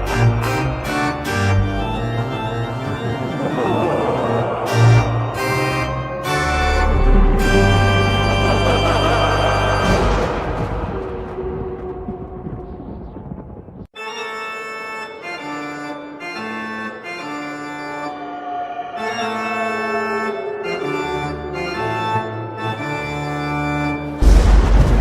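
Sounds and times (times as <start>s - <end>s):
organ-like keyboard chords: 0.0s - 10.6s, 13.9s - 24.4s.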